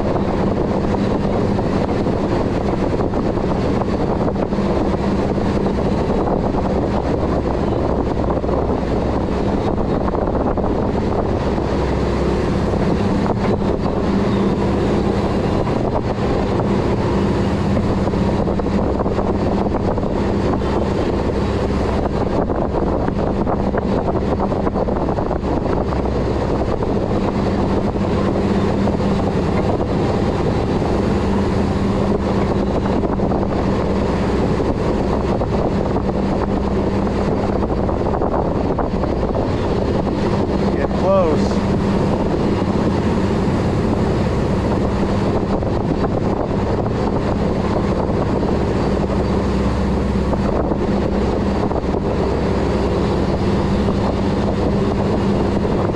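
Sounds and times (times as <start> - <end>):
boat engine droning: 0.0 - 55.9
wind buffeting microphone: 0.0 - 55.9.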